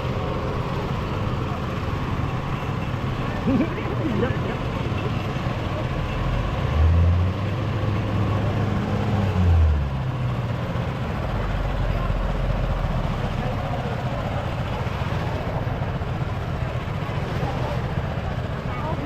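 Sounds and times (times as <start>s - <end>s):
background murmur: 0.0s - 19.0s
engine droning: 0.0s - 19.0s.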